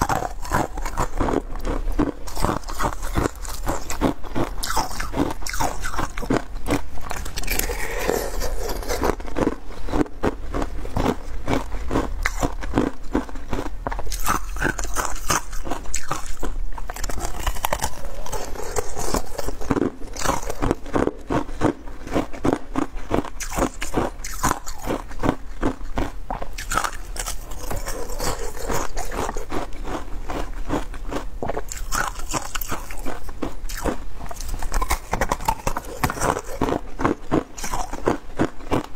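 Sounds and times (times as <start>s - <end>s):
ice crunching while chewed: 0.0s - 38.9s.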